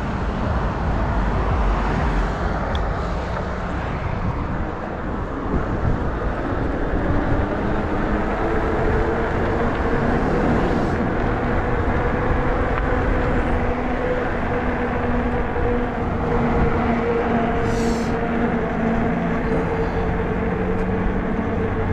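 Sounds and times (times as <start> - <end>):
electric bike hum: 0.0 - 21.9
wind buffeting microphone: 0.0 - 21.9.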